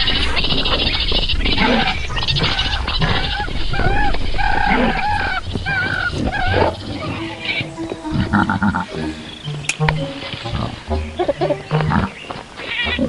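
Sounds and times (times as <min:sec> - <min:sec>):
cartoon fowl squawks: 0:00.0 - 0:13.0.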